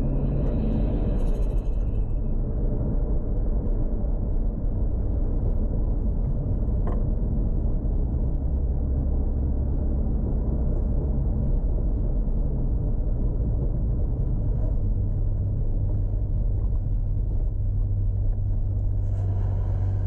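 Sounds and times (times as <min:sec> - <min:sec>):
car engine droning steadily: 0:00.0 - 0:20.0.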